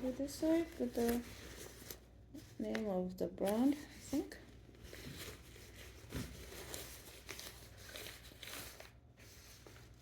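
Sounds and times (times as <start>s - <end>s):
shower cap rustling and crinkling: 0.0s - 10.0s.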